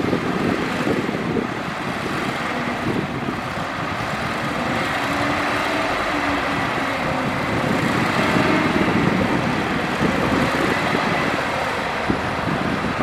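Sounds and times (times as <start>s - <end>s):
diesel earthmoving machinery running: 0.0s - 13.0s.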